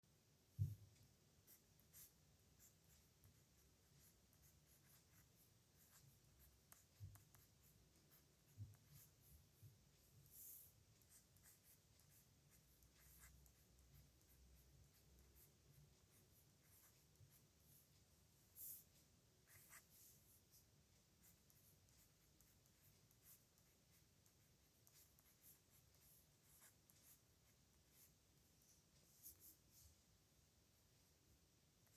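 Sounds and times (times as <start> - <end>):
pen scratching on paper: 1.4 - 28.2, 28.8 - 29.9.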